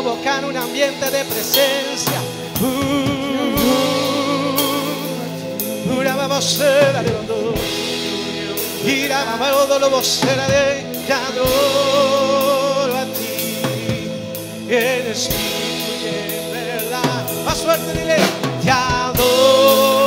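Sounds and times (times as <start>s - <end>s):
gospel band playing: 0.0s - 20.0s
voices singing with vibrato: 0.0s - 20.0s.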